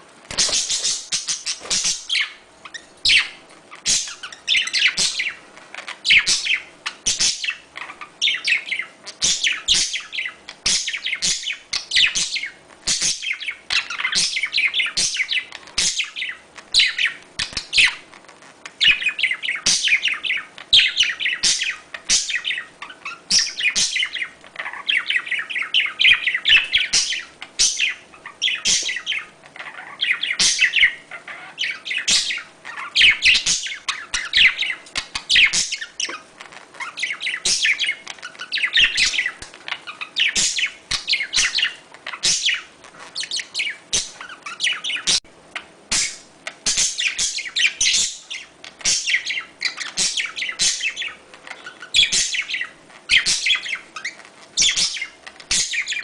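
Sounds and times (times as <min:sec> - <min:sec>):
budgerigars chirping and warbling: 0:00.3 - 0:56.0.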